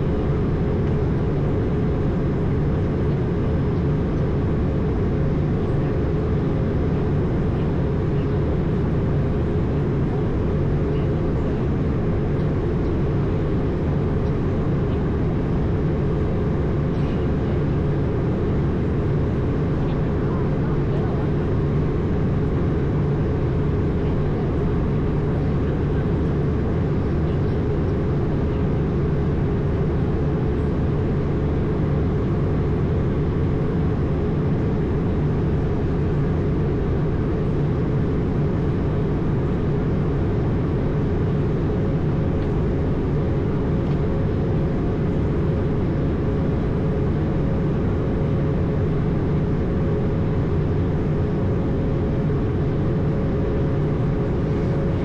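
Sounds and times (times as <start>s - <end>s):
jet engine drone: 0.0s - 55.0s.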